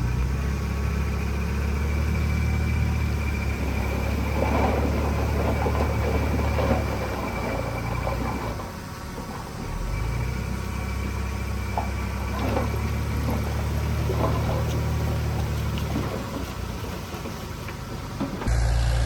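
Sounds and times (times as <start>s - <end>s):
heavy machinery diesel engine running: 0.0s - 19.0s.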